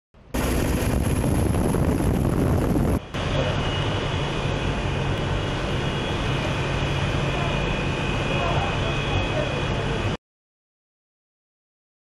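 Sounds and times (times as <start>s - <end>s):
jet engine roar: 0.2s - 10.2s.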